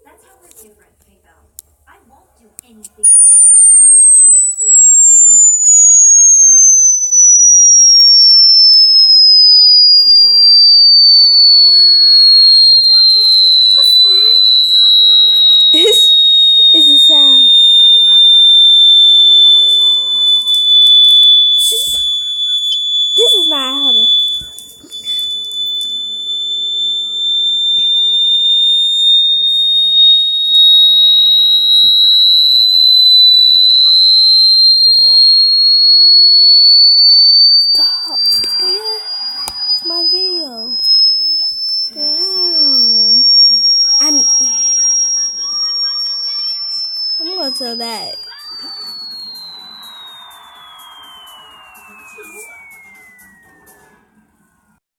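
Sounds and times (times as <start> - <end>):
high-pitched tone gliding down: 3.0 - 54.0.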